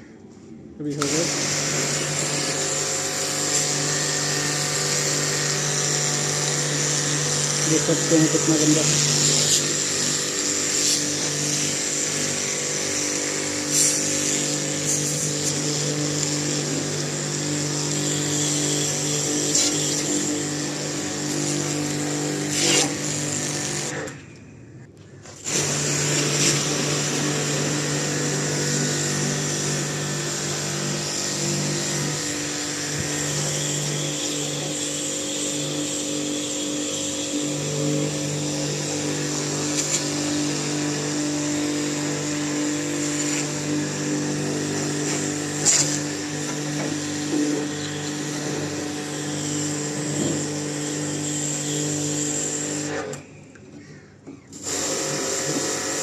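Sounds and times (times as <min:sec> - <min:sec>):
electric motor humming and hissing: 0:00.9 - 0:24.2, 0:25.4 - 0:53.2, 0:54.6 - 0:56.0.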